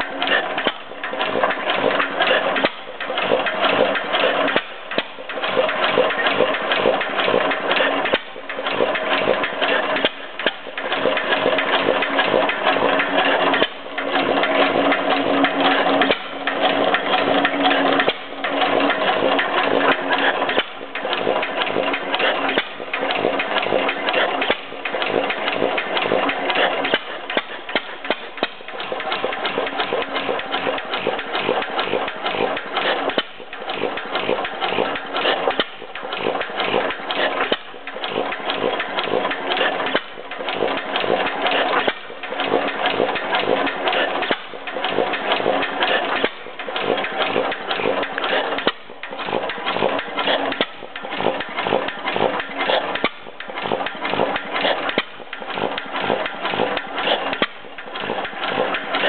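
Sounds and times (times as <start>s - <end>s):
stationary engine clattering: 0.0s - 59.0s.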